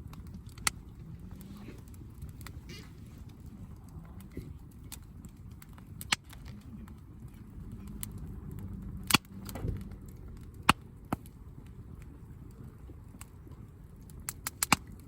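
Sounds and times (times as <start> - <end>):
campfire crackling: 0.0 - 15.0
sharp fire pops: 0.0 - 15.0.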